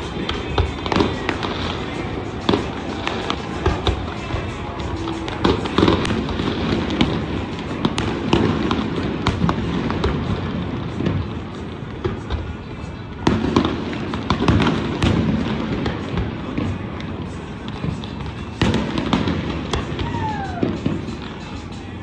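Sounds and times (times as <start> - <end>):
fireworks booming: 0.0 - 21.7
fireworks crackling: 0.0 - 22.0.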